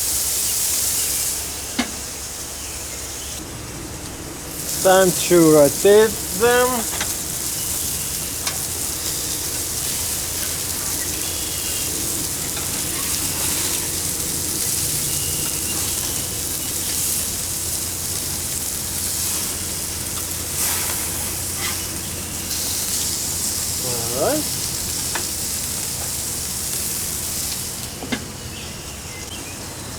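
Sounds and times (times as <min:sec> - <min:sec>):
patties sizzling on a grill: 0:00.0 - 0:29.9.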